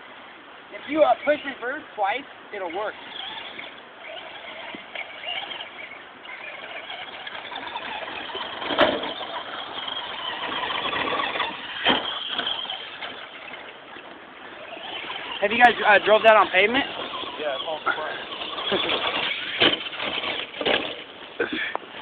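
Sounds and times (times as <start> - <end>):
remote-control truck whine: 2.6 - 21.3.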